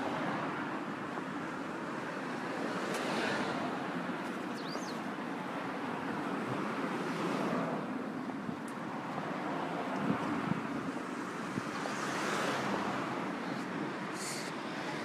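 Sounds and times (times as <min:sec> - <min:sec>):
road traffic going by: 0:00.0 - 0:15.0.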